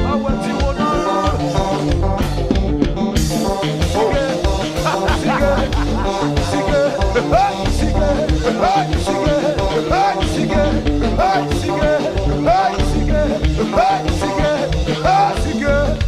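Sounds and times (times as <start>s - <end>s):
heavy bass beats: 0.0s - 16.0s
live dance band music: 0.0s - 16.0s.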